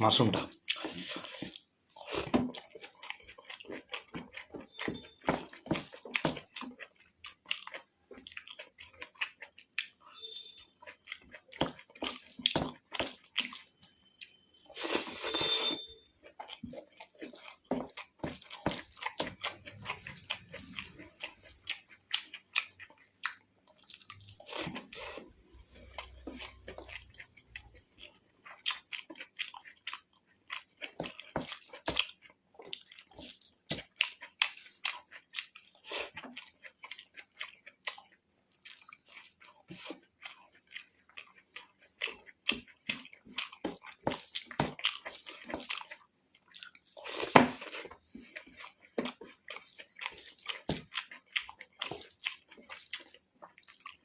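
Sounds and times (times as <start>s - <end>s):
close-miked chewing: 0.0s - 54.0s.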